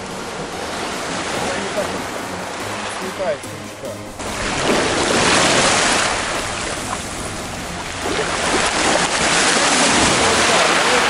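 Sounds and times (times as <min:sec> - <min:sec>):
small waves washing in: 0:00.0 - 0:11.0.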